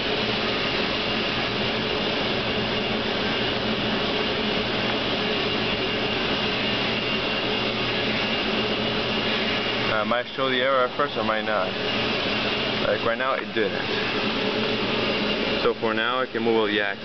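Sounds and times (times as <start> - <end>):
faint high whine: 0.0 - 17.0
low machinery hums: 0.0 - 17.0.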